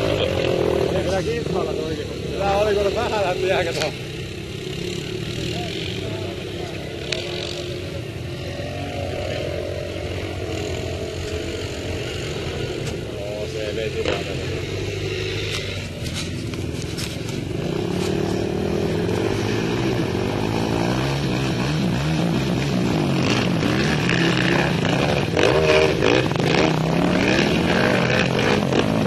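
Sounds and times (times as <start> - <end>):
quad bike engines racing: 0.0 - 29.0.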